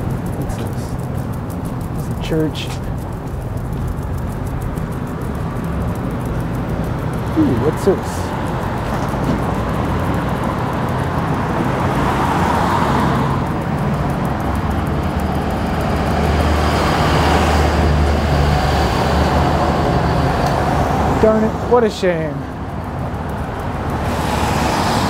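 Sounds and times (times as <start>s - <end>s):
cars passing on road: 0.0s - 25.0s
heavy vehicle engine rumble: 0.0s - 25.0s.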